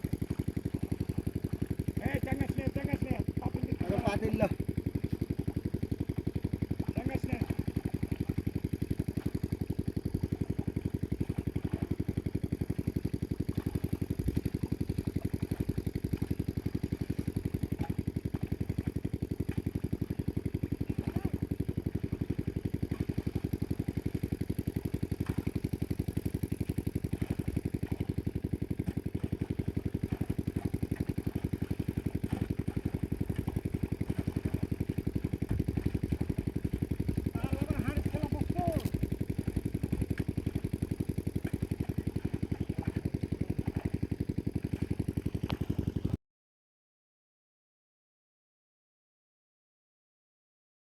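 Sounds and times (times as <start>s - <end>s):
small engine running: 0.0s - 46.2s.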